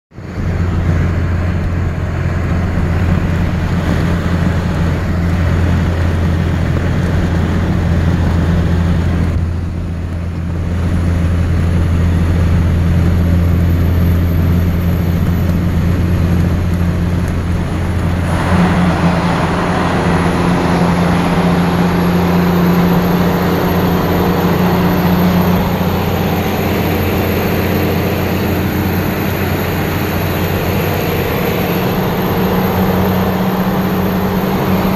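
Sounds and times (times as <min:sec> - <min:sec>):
diesel truck engine drone: 0:00.1 - 0:34.9.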